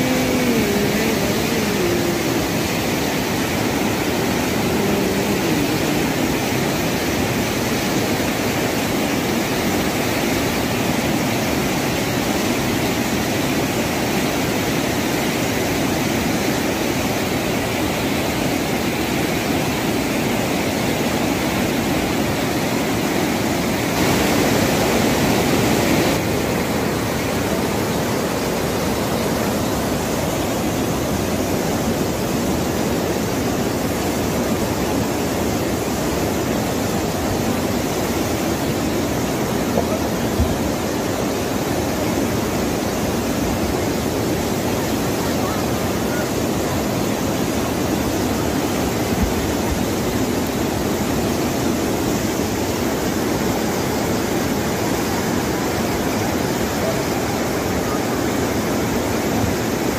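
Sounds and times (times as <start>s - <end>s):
river rushing in flood: 0.0s - 59.9s.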